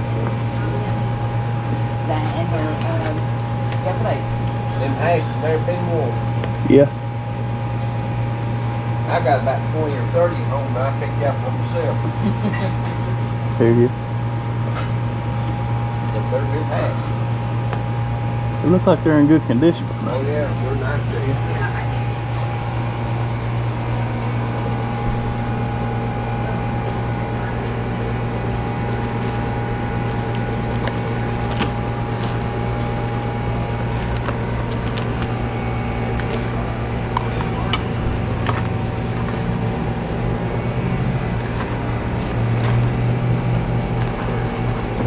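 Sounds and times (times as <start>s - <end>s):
faint whine: 0.0s - 45.0s
low mechanical hum: 0.0s - 45.0s.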